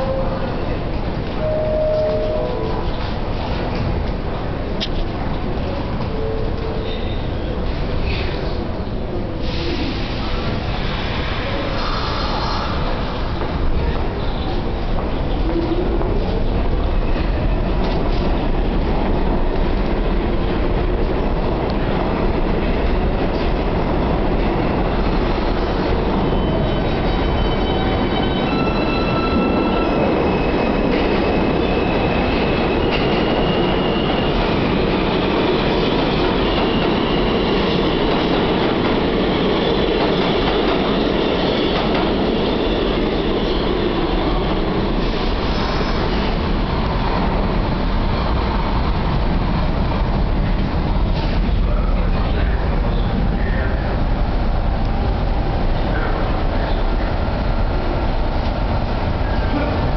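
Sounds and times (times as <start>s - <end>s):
subway train wheels rumbling: 0.0s - 59.9s.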